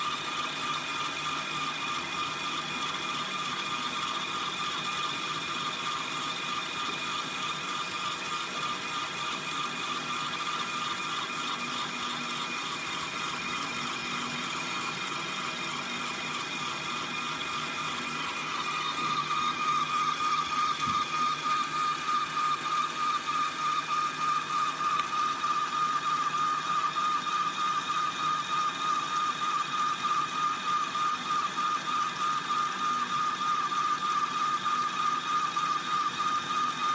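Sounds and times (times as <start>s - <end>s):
gear motor whine: 0.0s - 36.9s.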